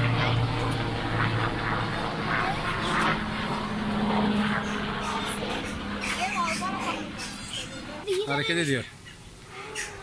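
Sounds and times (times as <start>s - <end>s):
engine drone: 0.0s - 8.0s.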